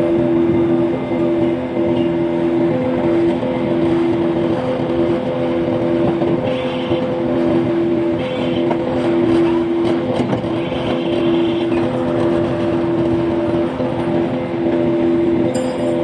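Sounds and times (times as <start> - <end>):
forklift engine humming: 0.0 - 16.0.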